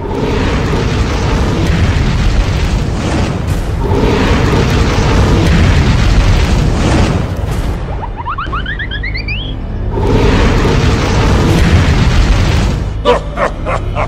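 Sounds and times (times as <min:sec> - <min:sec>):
rushing rumble of flames: 0:00.0 - 0:08.3, 0:09.8 - 0:13.0.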